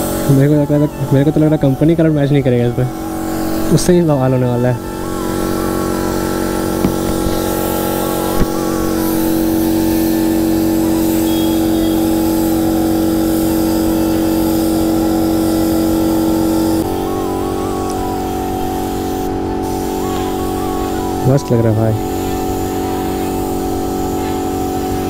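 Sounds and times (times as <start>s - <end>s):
air compressor humming: 0.0s - 25.0s
spray gun hissing: 2.2s - 25.0s.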